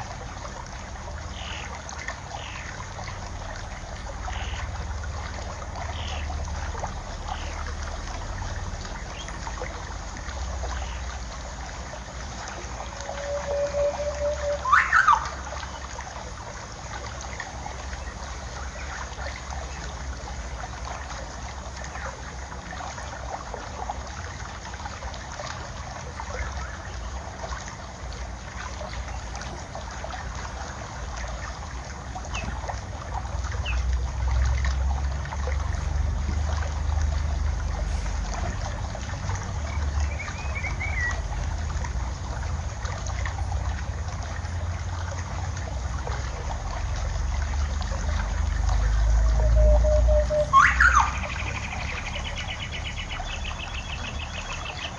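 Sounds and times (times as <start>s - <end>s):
water trickling: 0.0s - 54.9s.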